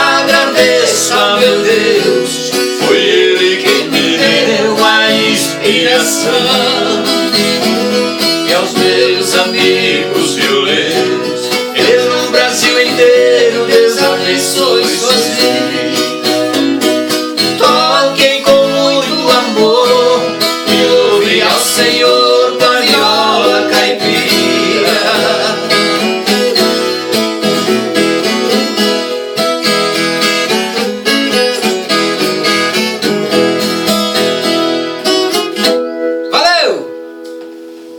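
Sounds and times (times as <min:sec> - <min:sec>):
plucked guitar with band: 0:00.0 - 0:37.9.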